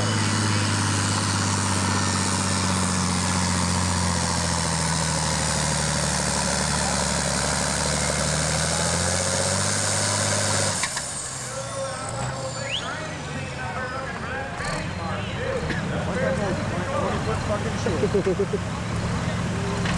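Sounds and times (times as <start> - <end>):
tractor diesel engine under load: 0.0 - 19.9.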